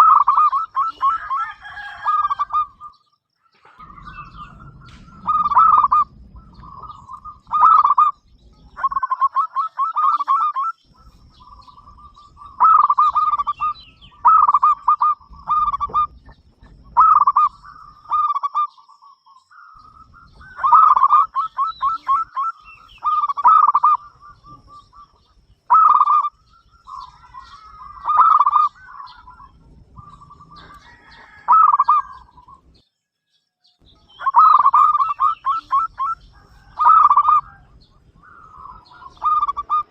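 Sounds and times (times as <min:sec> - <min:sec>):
dove cooing: 0:00.0 - 0:18.8, 0:19.7 - 0:32.6, 0:34.0 - 0:39.9.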